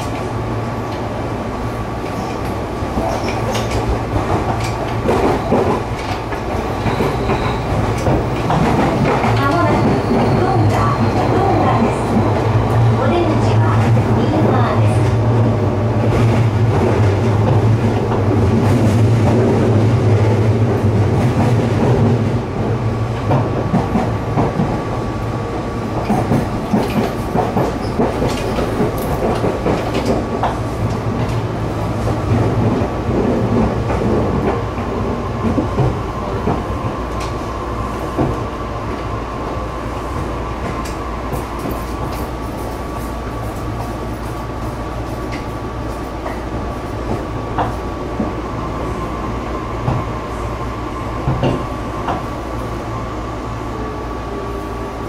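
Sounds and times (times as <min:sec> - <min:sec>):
train running hum: 0:00.0 - 0:55.0.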